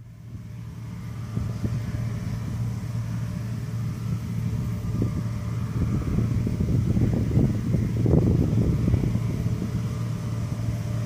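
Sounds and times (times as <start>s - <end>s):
distant combine harvester engine hum: 0.0s - 11.0s.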